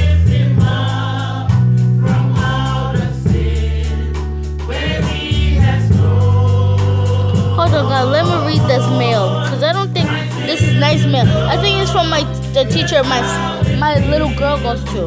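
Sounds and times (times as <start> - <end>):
choir singing: 0.0 - 15.0
heavy bass notes: 0.0 - 15.0.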